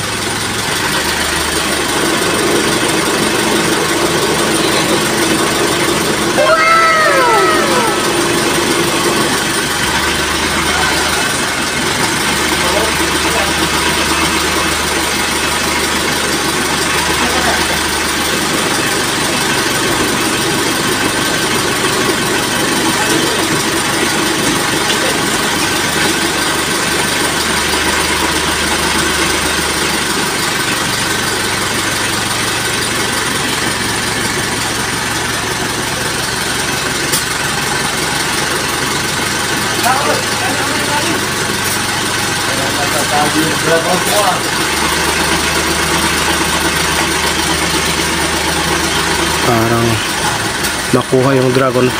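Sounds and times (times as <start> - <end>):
crane engine running: 0.0 - 51.9.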